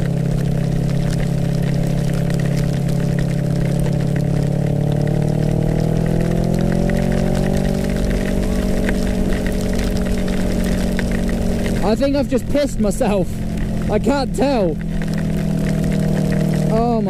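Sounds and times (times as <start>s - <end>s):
motorcycle engine running: 0.0s - 17.0s
rain ticks on camera: 0.0s - 17.0s
wind and heavy rain hiss: 0.0s - 17.0s.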